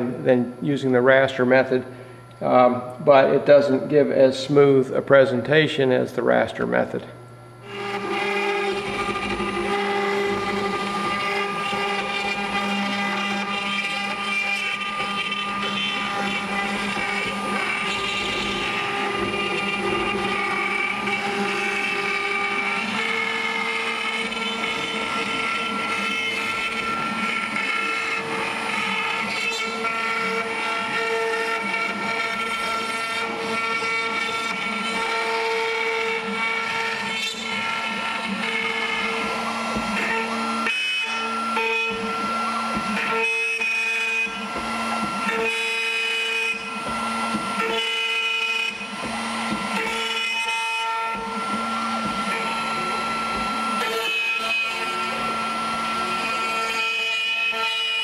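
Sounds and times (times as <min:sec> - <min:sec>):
router spindle whining: 0:06.3 - 0:58.0.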